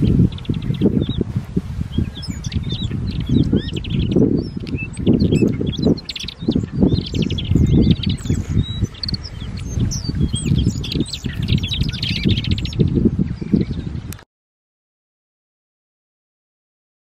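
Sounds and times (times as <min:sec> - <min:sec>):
birds chirping and trilling: 0:00.0 - 0:14.2.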